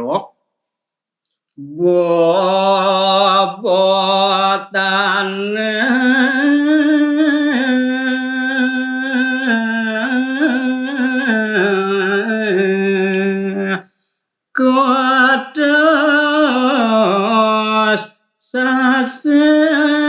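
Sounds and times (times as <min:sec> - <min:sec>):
man singing unaccompanied: 0:01.6 - 0:13.9, 0:14.6 - 0:20.0.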